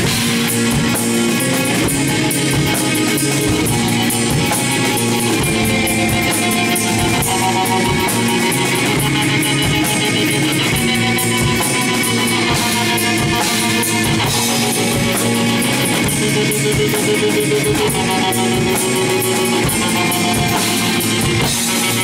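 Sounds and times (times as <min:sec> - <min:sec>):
bass guitar: 0:00.0 - 0:22.0
drum kit with cymbals: 0:00.0 - 0:22.0
electric guitar: 0:00.0 - 0:22.0.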